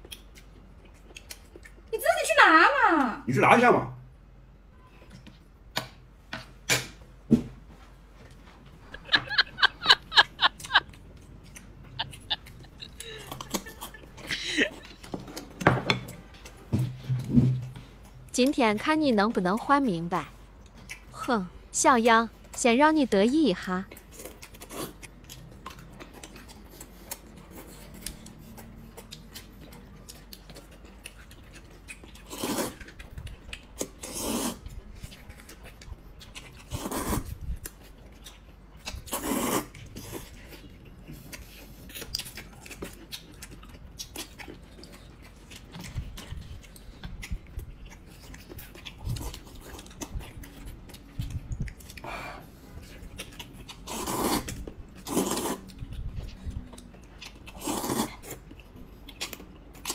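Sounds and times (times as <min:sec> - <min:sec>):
chewing and gnawing: 0:00.0 - 0:01.9, 0:08.2 - 0:21.7, 0:22.3 - 0:59.9.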